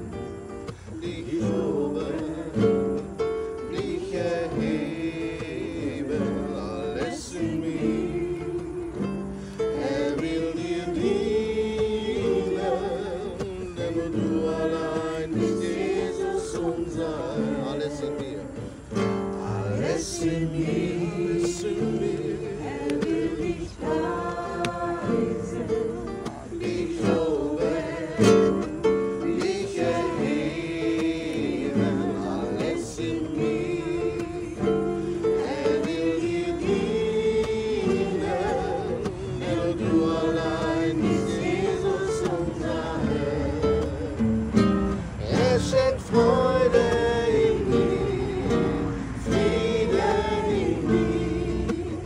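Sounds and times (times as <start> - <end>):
acoustic guitar strumming: 0.0 - 52.0
people singing worship song: 0.0 - 52.0.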